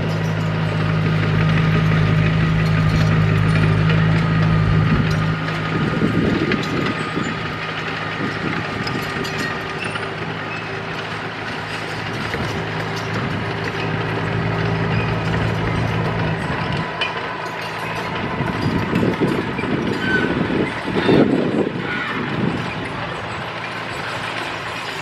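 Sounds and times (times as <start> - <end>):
bulldozer diesel engine: 0.0 - 25.0.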